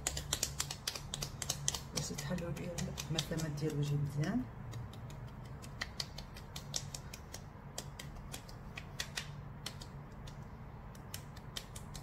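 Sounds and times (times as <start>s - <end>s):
fingertips tapping skin: 0.0s - 12.0s
low steady hum: 0.0s - 12.0s.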